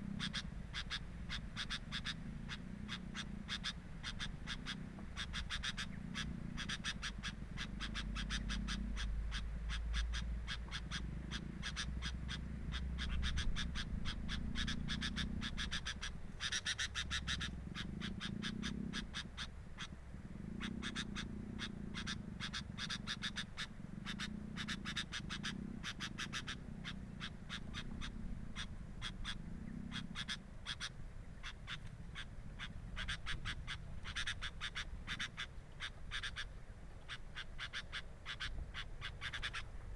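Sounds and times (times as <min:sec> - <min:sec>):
low croaking: 0:00.0 - 0:39.9.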